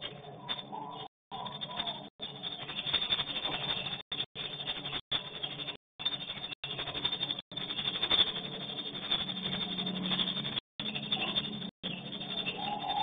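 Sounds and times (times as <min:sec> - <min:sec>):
swiftlets twittering: 0:00.6 - 0:13.0.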